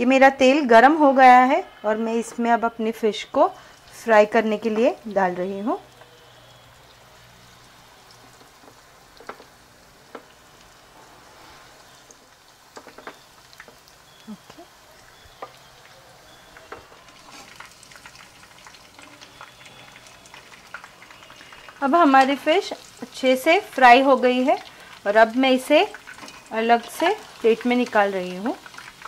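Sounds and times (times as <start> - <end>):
fish deep-frying in oil: 0.0 - 29.0
pops and crackles of frying oil: 3.4 - 11.1, 11.8 - 29.0.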